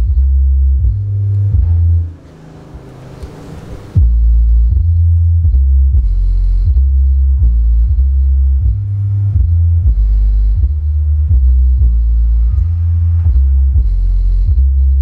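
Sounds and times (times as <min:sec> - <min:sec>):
subwoofer playing bass line: 0:00.0 - 0:15.0.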